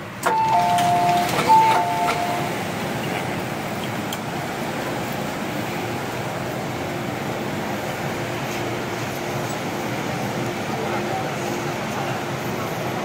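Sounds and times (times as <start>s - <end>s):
station background noise: 0.0s - 13.0s
train equipment hum: 0.0s - 13.0s.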